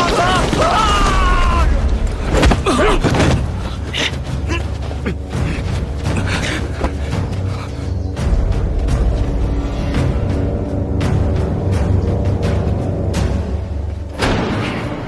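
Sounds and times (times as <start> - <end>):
dramatic music score: 0.0 - 15.0.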